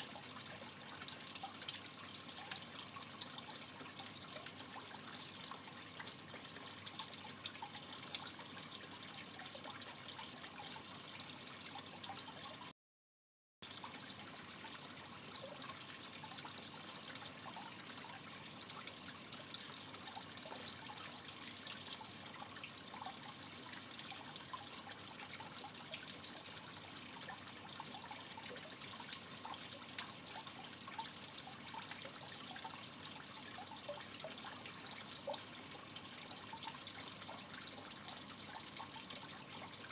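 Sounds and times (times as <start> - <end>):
water trickling: 0.0 - 12.7, 13.6 - 39.9.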